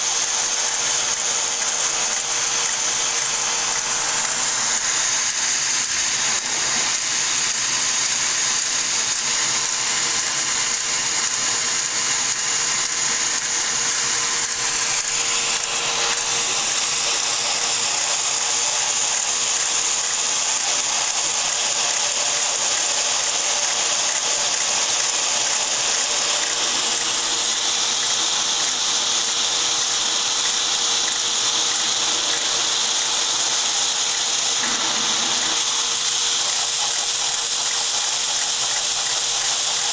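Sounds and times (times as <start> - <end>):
model steam engine whirring: 0.0 - 39.9.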